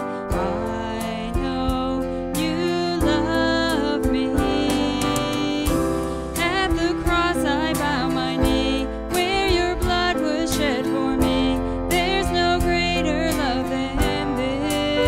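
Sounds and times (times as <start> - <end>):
woman singing lead: 0.0 - 15.0
worship band playing: 0.0 - 15.0
drum hits: 1.3 - 14.4.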